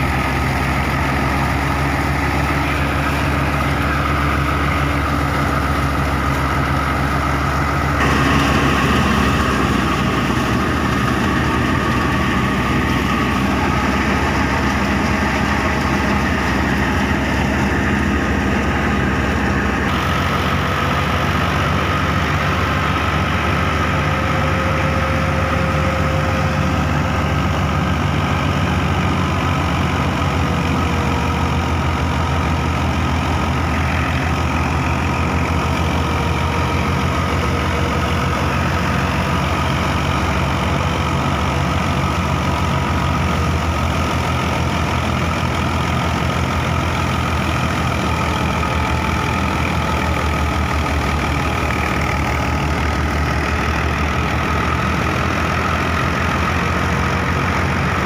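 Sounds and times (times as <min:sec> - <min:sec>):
machinery whine: 0:00.0 - 0:58.0
tractor diesel engine running: 0:00.0 - 0:58.0.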